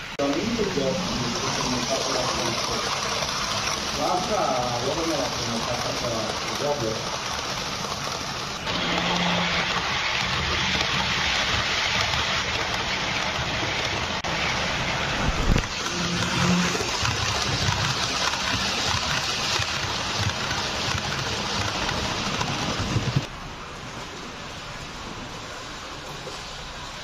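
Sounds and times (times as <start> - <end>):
model train wheels rumbling: 0.0 - 23.4
sharp track clack: 0.2 - 23.3.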